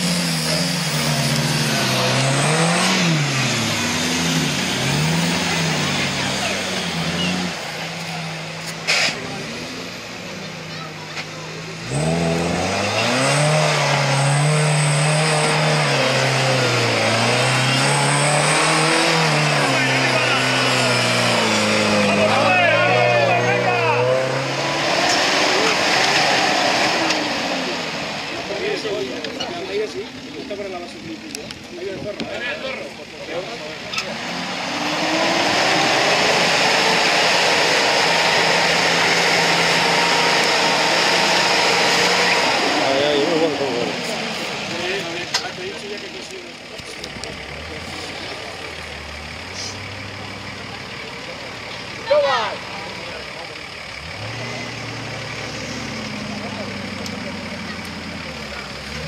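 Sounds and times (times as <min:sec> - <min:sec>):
engine revving at high revs: 0:00.0 - 0:10.7, 0:11.6 - 0:29.1, 0:33.3 - 0:59.0.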